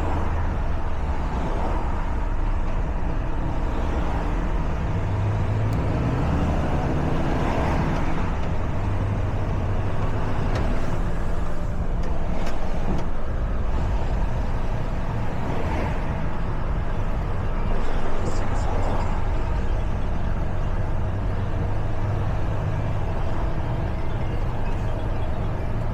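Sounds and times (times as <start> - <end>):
truck diesel engine running: 0.0 - 25.9
tyre and road noise: 0.0 - 25.9.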